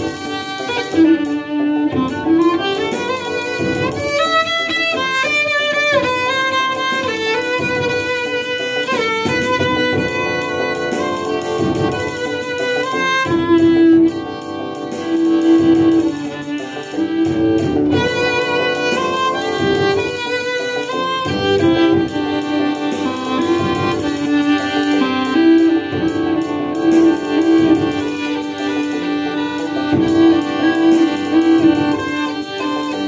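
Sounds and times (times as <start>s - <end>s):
bowed cello melody: 0.0s - 33.0s
hi-hats snare and bass beat: 0.0s - 33.0s
repeating guitar pattern: 0.0s - 33.0s.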